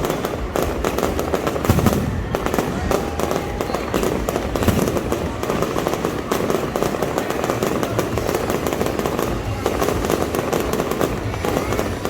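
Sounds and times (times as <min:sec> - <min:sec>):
fireworks crackling and popping: 0:00.0 - 0:12.0
heavy firework boom: 0:00.0 - 0:12.0.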